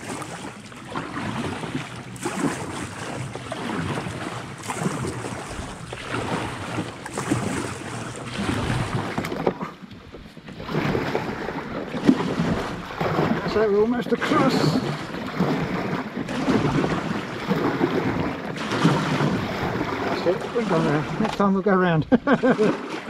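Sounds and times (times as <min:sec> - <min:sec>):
kayak paddle splashing: 0:00.0 - 0:23.0
water sloshing against hull: 0:00.0 - 0:23.0.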